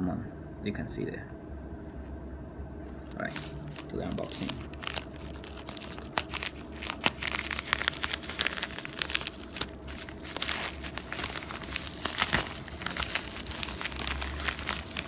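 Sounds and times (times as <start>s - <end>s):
plastic envelope crinkling: 2.9s - 15.0s.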